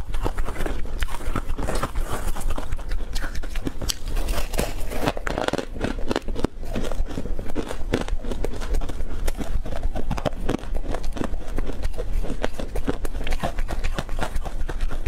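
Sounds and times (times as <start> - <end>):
crunchy snack chewing: 0.0 - 15.0.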